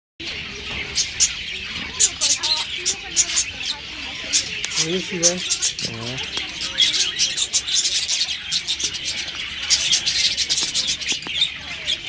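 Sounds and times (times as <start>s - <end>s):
many birds chirping: 0.2s - 12.0s.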